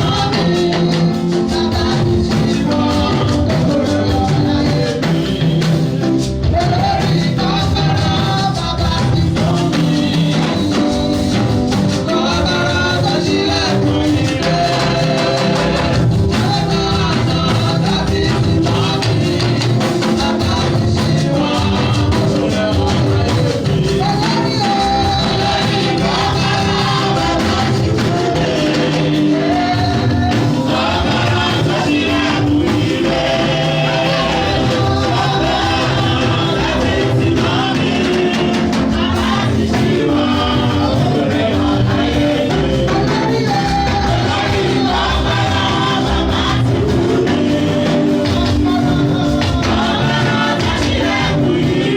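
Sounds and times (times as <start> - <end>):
drums and percussion: 0.0 - 51.9
gospel singing: 0.0 - 51.9.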